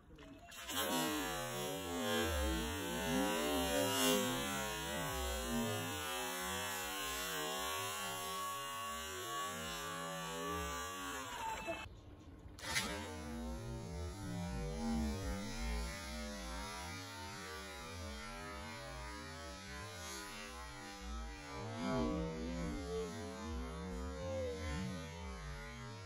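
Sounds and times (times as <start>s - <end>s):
low wavering hum: 0.8s - 26.0s.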